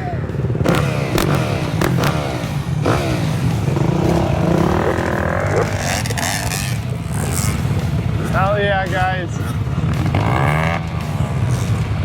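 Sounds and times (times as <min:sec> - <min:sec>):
motorcycle engine revving: 0:00.0 - 0:12.0
motorcycle passing: 0:00.0 - 0:12.0
off-road motorcycle engines: 0:00.0 - 0:12.0.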